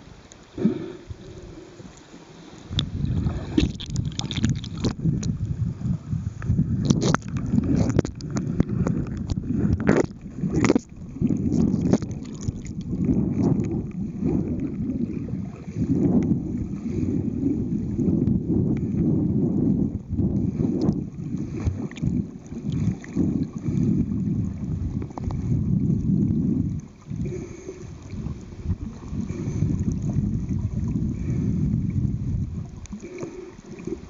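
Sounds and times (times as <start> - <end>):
muffled underwater water rumble: 0.0 - 34.0.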